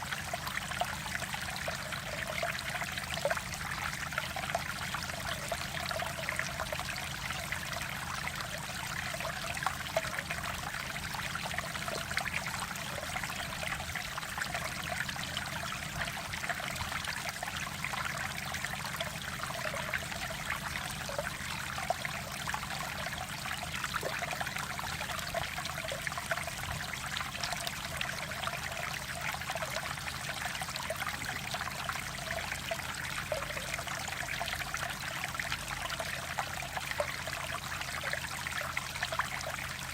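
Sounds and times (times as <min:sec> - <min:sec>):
stream water rushing and trickling: 0:00.0 - 0:39.9.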